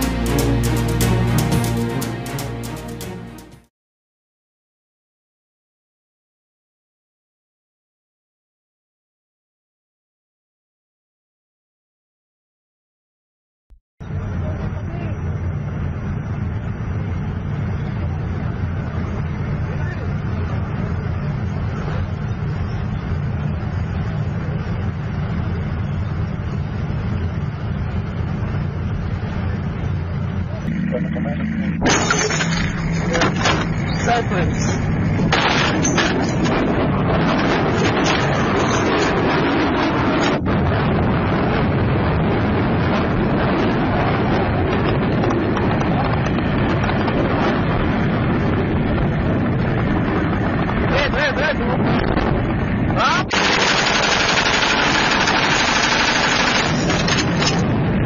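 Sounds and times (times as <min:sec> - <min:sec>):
armoured vehicle engines rumbling: 0:00.0 - 0:03.6, 0:14.0 - 0:58.0.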